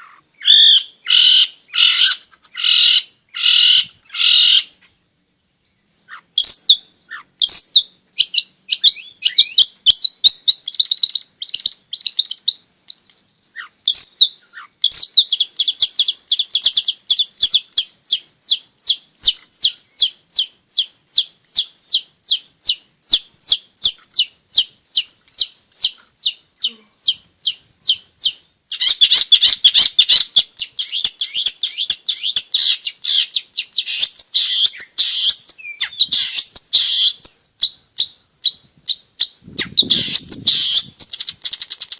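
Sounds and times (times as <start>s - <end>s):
shrike singing: 5.9s - 41.9s.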